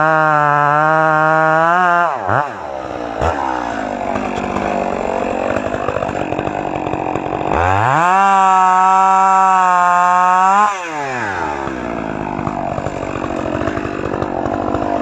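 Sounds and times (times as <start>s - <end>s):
two-stroke chainsaw cutting wood: 0.0s - 15.0s.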